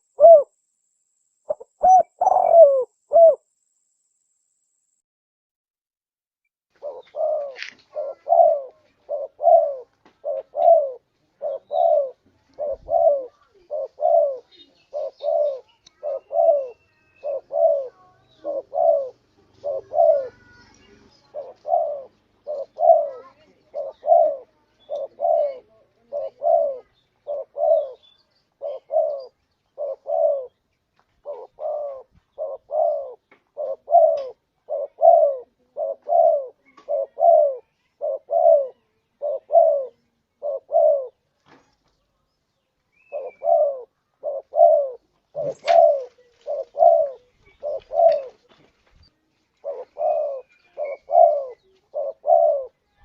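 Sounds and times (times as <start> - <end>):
dove cooing: 0.0 - 0.6, 1.5 - 3.5, 6.8 - 30.6, 31.2 - 41.2, 43.0 - 48.6, 49.6 - 53.0.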